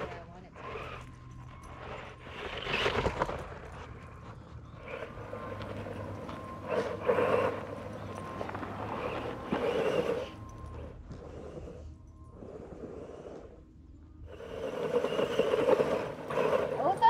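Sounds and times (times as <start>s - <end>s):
remote-control toy car running: 0.0s - 13.6s, 14.3s - 17.0s.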